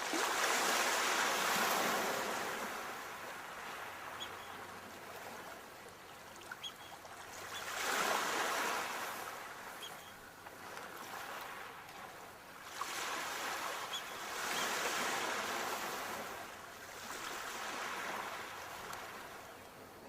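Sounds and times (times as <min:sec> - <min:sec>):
sea waves washing onto shore: 0:00.0 - 0:19.5.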